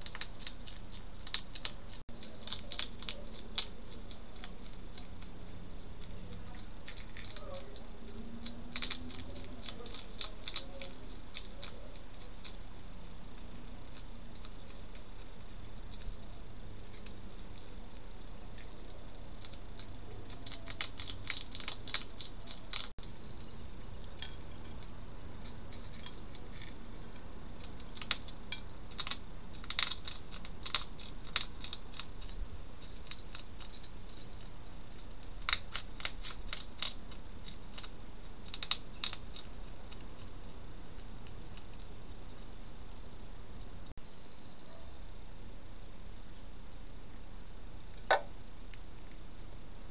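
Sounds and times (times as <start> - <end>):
hedgehog crunching food: 0.0 - 43.9
steady background hiss: 0.0 - 49.9.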